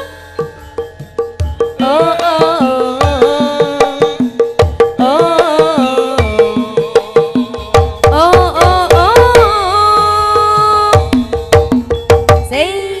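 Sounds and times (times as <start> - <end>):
hand drum beating: 0.4 - 12.8.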